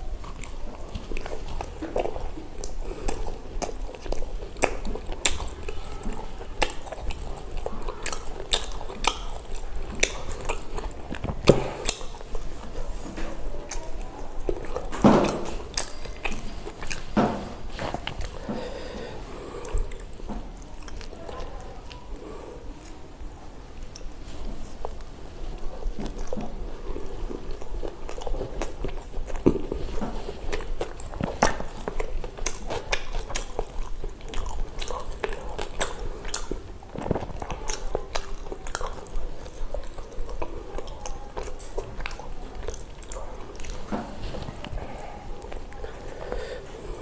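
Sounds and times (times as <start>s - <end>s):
person chewing food: 0.0s - 47.0s.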